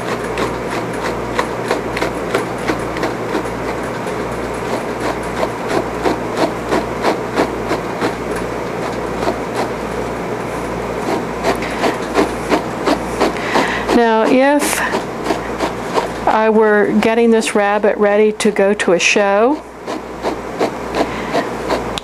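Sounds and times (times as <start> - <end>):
brush scratching through fur: 0.0 - 16.6, 19.3 - 22.0.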